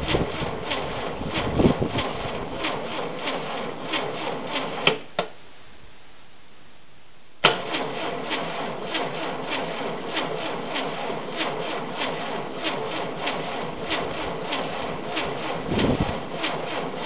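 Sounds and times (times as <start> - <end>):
starter motor cranking engine: 0.0 - 5.2, 7.4 - 17.0.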